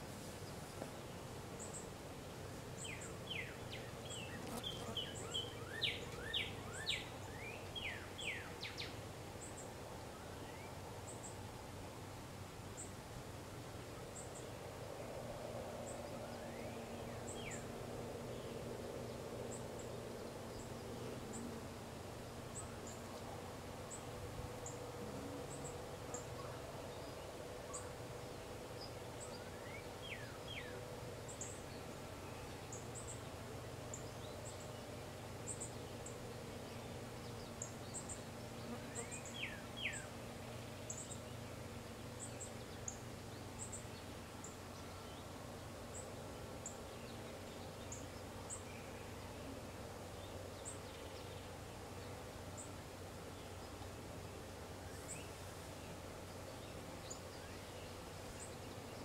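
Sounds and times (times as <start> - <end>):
low background hum: 0.0 - 59.0.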